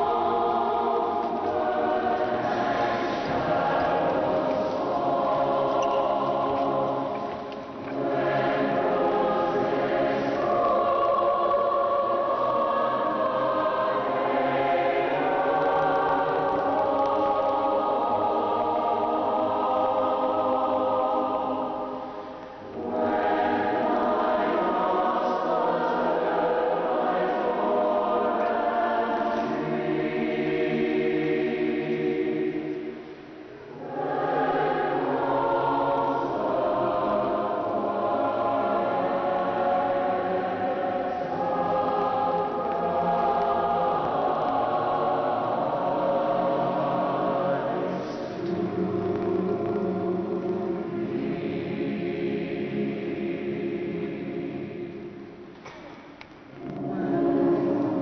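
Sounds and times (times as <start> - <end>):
choir singing held chords: 0.0 - 58.0.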